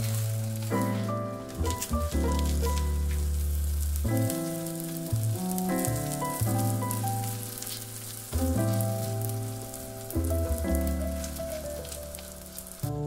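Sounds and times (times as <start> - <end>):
flatbread sizzling in a pan: 0.0 - 13.0.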